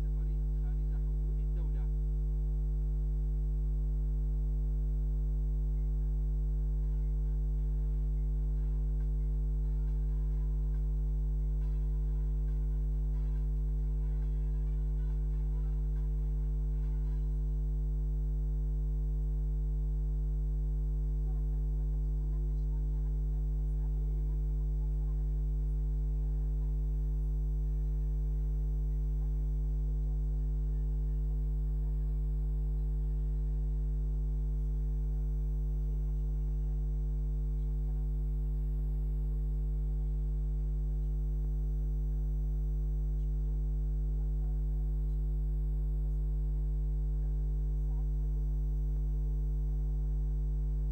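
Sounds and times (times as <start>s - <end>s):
low electrical mains hum: 0.0s - 50.9s.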